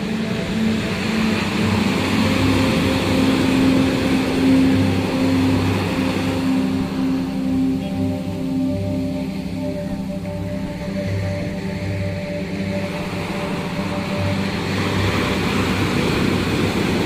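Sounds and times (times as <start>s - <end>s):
ambient music with low held notes: 0.0s - 17.0s.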